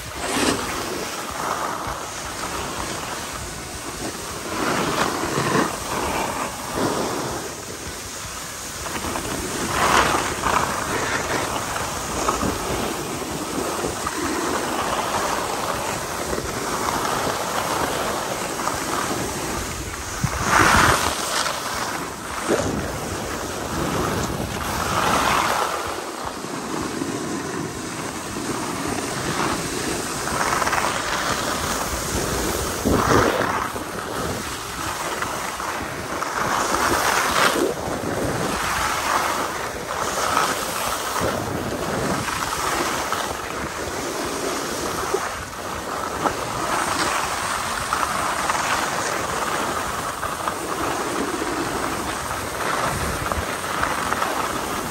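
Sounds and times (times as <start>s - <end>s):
skis scraping on snow: 0.0s - 54.9s
wind on microphone: 0.0s - 54.9s.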